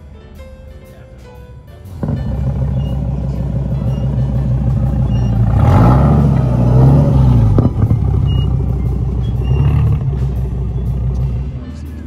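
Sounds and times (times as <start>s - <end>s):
car engine idling and revving: 1.8s - 12.0s.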